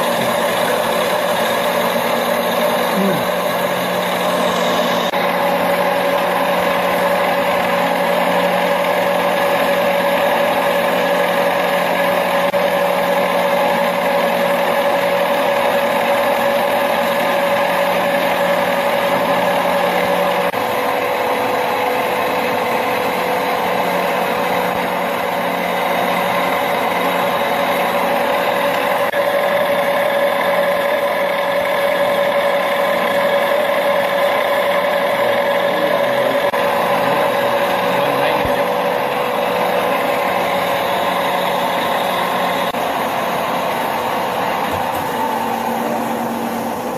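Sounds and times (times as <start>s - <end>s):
machine humming with whine: 0.0s - 46.9s.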